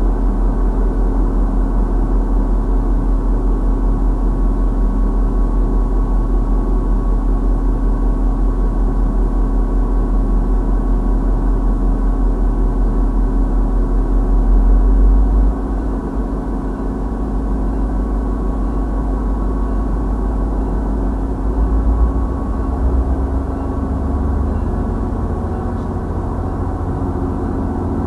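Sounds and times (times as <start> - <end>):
constant hum: 0.0 - 28.0
engine droning at idle: 0.0 - 28.0.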